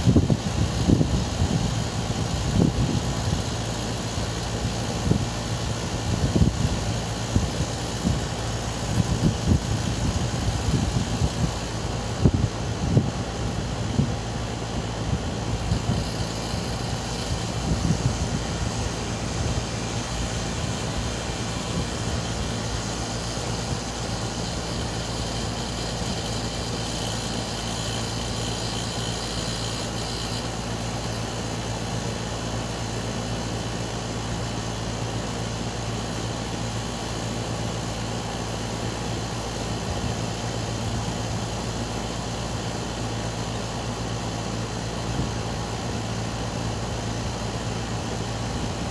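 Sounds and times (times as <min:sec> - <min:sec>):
air conditioner hiss: 0:00.0 - 0:48.9
air conditioner humming: 0:00.0 - 0:48.9.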